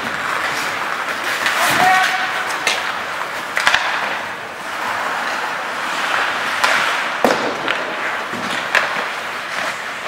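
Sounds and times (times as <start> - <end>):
hockey sticks clacking: 0.0 - 10.0
skate blades scraping ice: 0.0 - 10.0.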